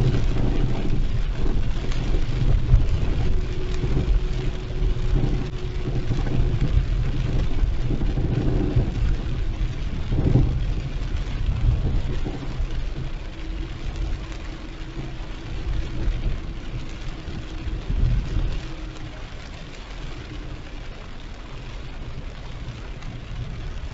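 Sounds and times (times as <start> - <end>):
car engine and tyres on wet road: 0.0 - 23.9
rain hissing: 0.0 - 23.9.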